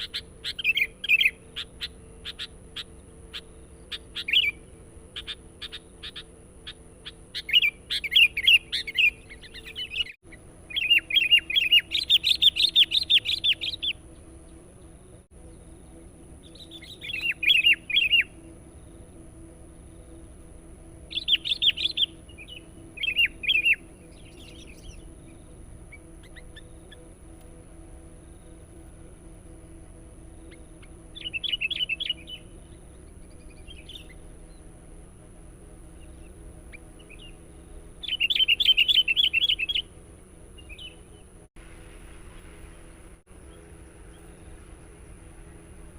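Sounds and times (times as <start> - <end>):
bulbul singing: 0.0 - 45.9.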